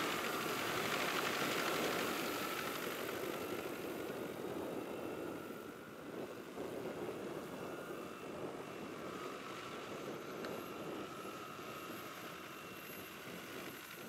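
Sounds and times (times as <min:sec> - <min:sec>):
faint steady whine: 0:00.0 - 0:14.0
helicopter rotor blades rushing: 0:00.0 - 0:14.0.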